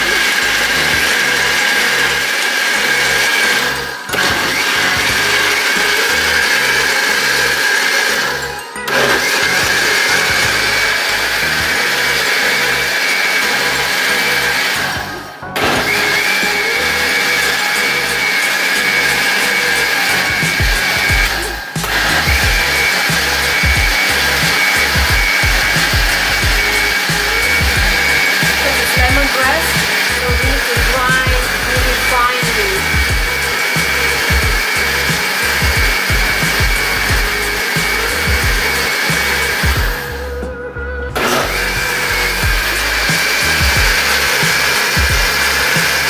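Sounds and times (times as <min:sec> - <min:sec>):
blender motor whining: 0:00.0 - 0:46.0.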